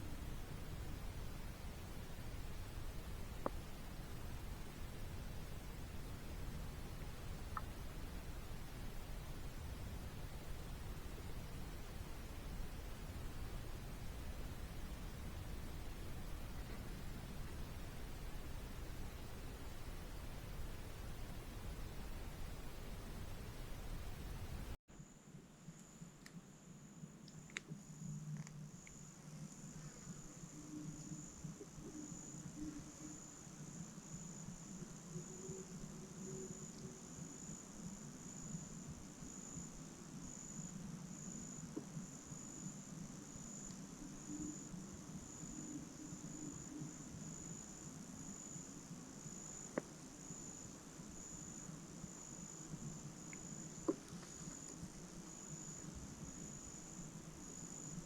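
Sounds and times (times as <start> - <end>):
insects chirping: 0.0 - 58.0
low background hum: 0.0 - 58.0.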